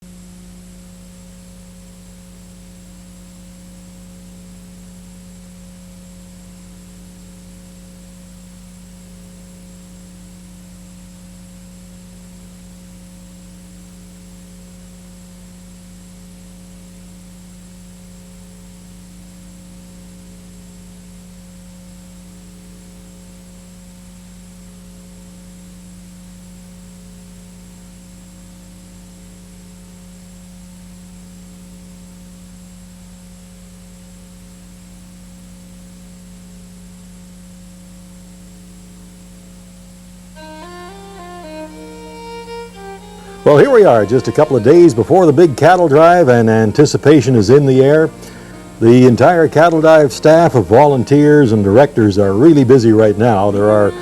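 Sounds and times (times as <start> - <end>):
electrical hum: 0.0 - 54.0
tape hiss: 0.0 - 54.0.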